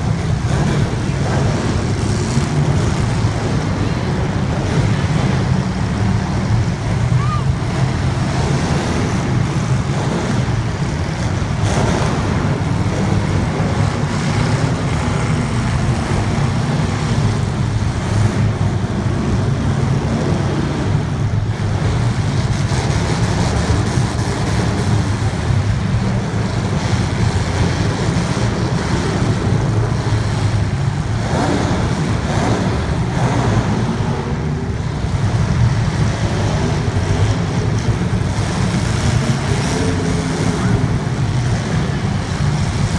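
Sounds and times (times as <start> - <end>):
race car engines droning: 0.0 - 42.9.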